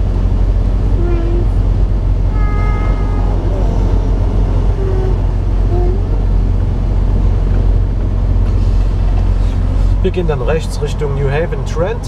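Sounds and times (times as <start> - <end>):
road noise: 0.0 - 12.0
truck diesel engine droning: 0.0 - 12.0.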